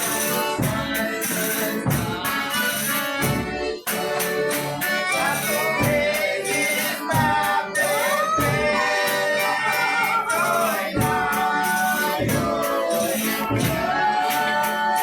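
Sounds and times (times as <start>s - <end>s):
group singing devotional song: 0.0s - 15.0s
percussion strikes: 0.0s - 15.0s.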